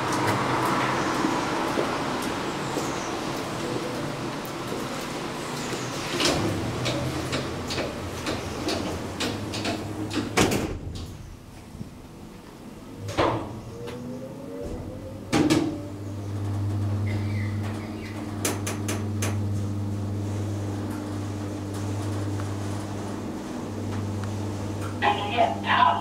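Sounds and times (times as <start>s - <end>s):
elevator doors closing: 0.0s - 26.0s.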